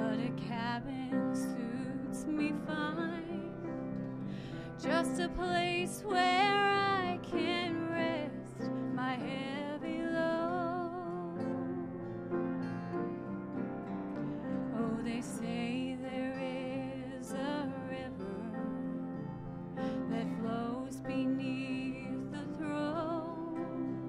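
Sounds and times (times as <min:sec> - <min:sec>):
woman singing gospel song: 0:00.0 - 0:03.8, 0:04.5 - 0:11.8, 0:14.7 - 0:18.8, 0:19.8 - 0:24.0
strummed acoustic guitar: 0:00.0 - 0:24.0.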